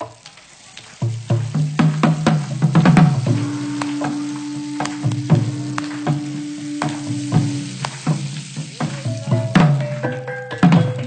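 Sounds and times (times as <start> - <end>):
steady hiss: 0.0 - 11.0
drum and cymbal hits: 1.1 - 11.0.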